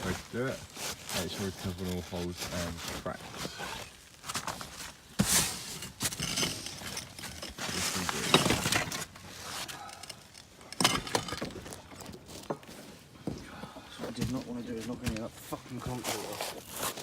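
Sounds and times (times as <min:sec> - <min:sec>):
roofing membrane rustling: 0:00.0 - 0:17.0.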